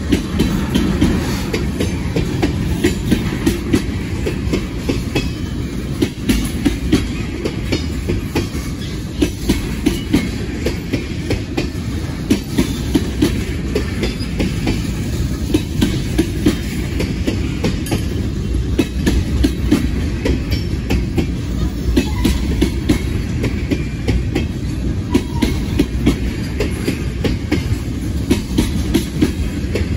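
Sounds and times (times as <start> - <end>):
freight train low rumble: 0.0 - 29.9
wheel clacks over rail joints: 0.0 - 29.9.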